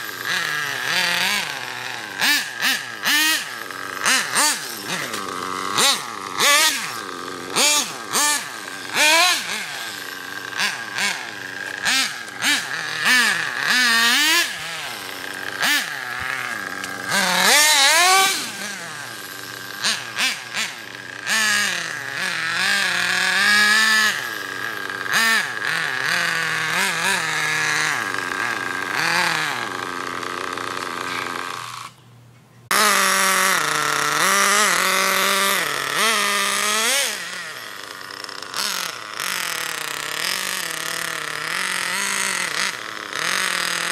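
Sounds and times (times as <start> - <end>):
small engine revving: 0.0 - 43.9.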